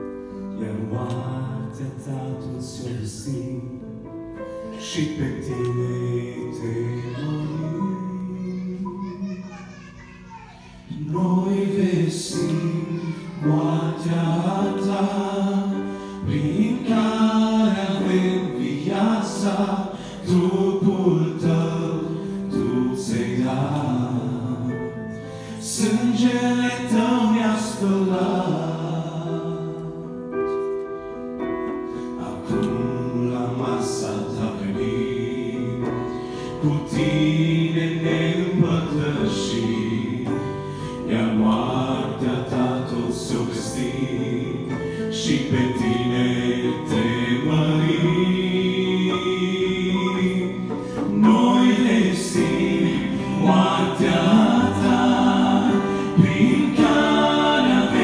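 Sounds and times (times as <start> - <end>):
male trio singing a hymn: 0.0 - 9.4, 10.9 - 30.6, 31.8 - 58.0.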